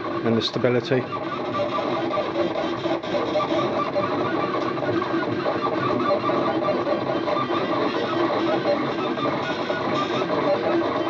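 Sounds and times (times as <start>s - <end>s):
printer stepper motors whining: 0.0s - 11.0s.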